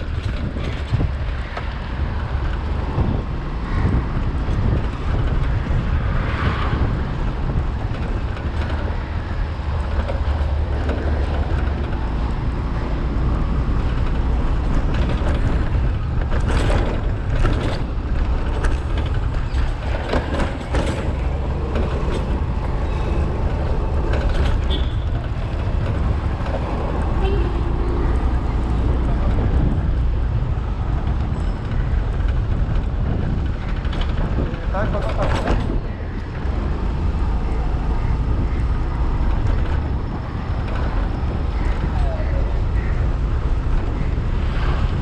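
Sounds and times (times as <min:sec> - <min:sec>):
sharp traffic noises: 0:00.0 - 0:45.0
wind and scooter engine rumble: 0:00.0 - 0:45.0.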